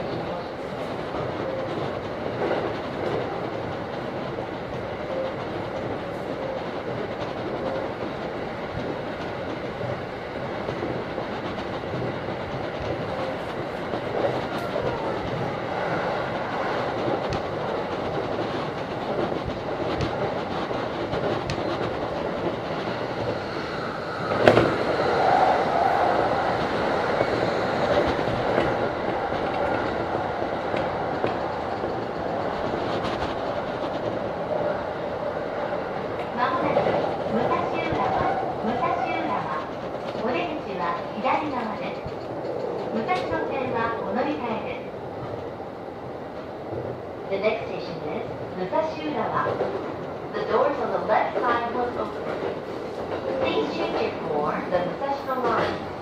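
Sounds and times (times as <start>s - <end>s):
clickety-clack at rail joints: 0.0s - 56.0s
train wheels rumbling on rails: 0.0s - 56.0s.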